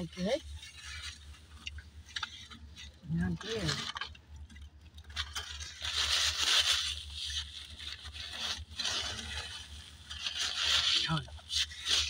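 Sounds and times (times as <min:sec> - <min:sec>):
paper wrapper crinkling: 0:02.1 - 0:12.0.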